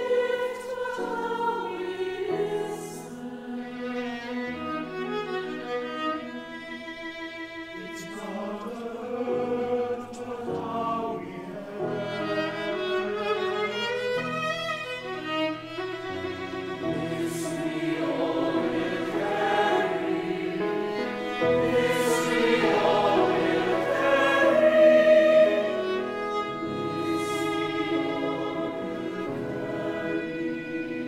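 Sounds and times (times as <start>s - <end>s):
mixed choir singing: 0.0s - 6.9s, 7.7s - 14.2s, 16.2s - 31.0s
violin accompaniment: 0.0s - 31.0s.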